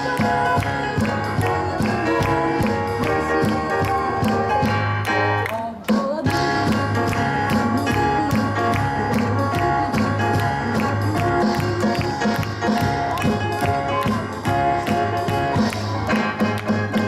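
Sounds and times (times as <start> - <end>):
boogie-woogie keyboard and drums: 0.0 - 17.0.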